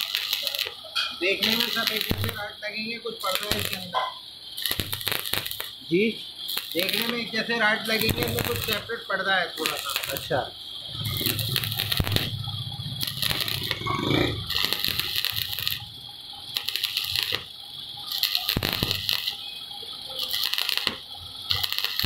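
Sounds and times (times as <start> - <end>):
arc welding crackling: 0.0 - 22.0.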